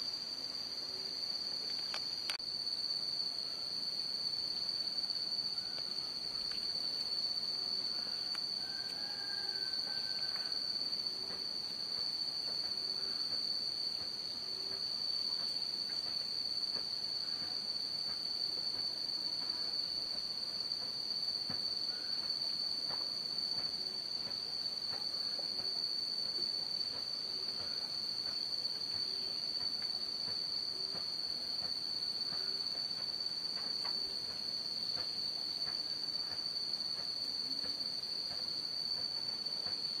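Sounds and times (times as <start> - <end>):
shrill insect chorus: 0.0 - 40.0.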